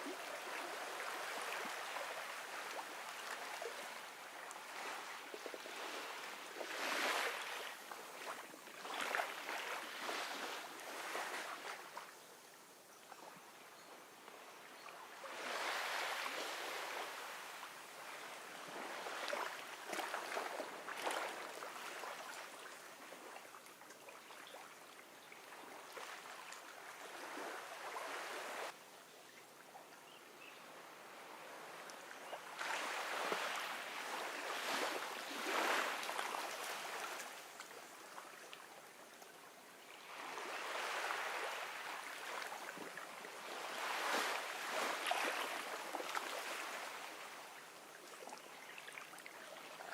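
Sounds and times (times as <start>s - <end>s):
ocean waves washing on beach: 0.0s - 12.2s, 15.1s - 23.6s, 25.5s - 28.8s, 30.7s - 39.2s, 39.9s - 49.9s.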